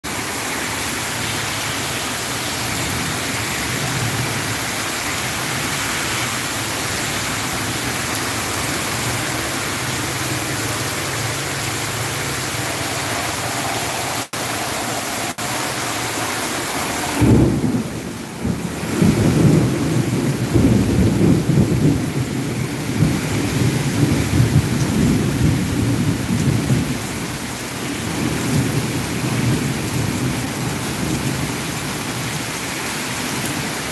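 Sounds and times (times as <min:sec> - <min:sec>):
torrential rain on pavement: 0:00.0 - 0:33.9.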